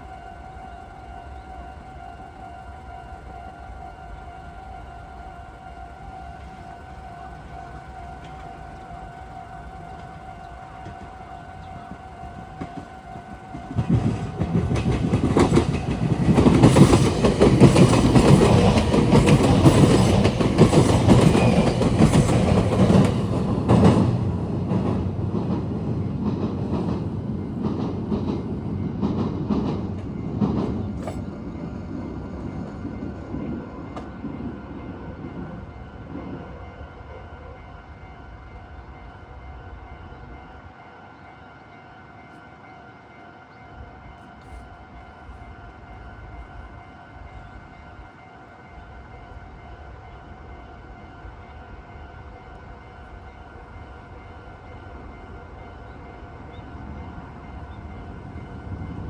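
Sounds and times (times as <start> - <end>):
electric train passing: 0.0 - 59.0
level-crossing warning tone: 0.0 - 59.0.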